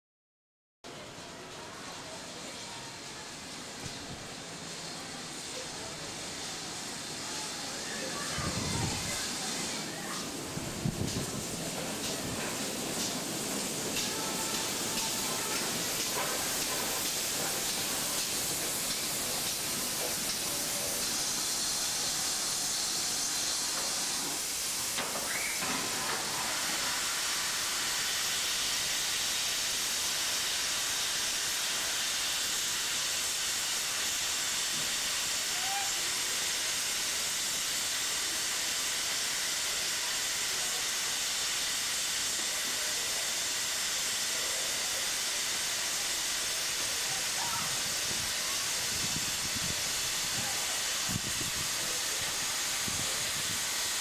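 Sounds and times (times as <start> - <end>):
steam locomotive hissing steam: 0.9 - 54.0.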